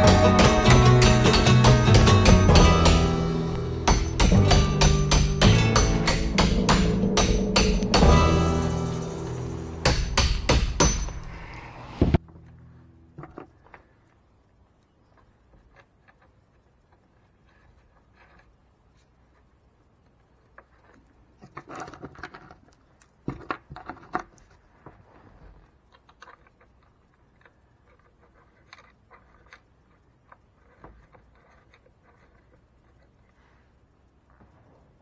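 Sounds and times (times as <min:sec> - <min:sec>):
rustling: 0:00.0 - 0:35.0.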